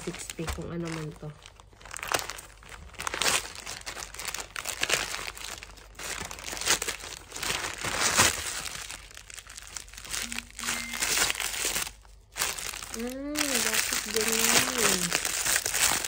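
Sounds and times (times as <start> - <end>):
bubble wrap rustling: 0.0 - 16.0
plastic mailer crinkling: 0.0 - 16.0.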